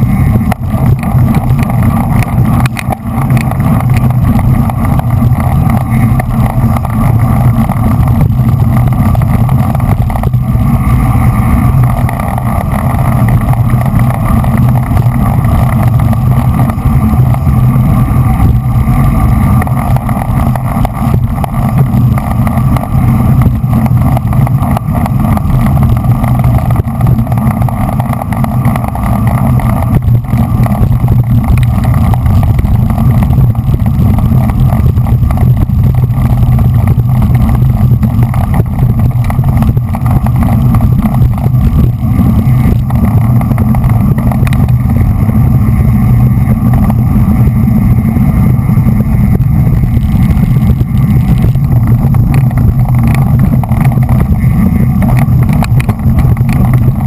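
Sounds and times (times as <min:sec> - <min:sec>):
road noise: 0:00.0 - 0:57.0
wind rush on microphone: 0:00.0 - 0:57.0.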